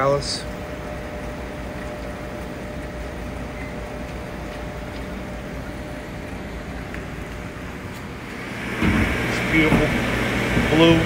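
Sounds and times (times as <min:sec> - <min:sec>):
equipment hum and hiss: 0:00.0 - 0:11.0.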